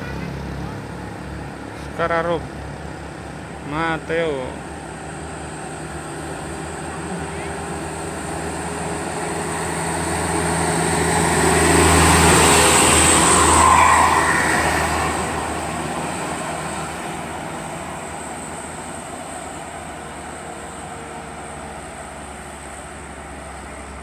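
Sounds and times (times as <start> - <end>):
diesel bus engine climbing hill: 0.0 - 24.0.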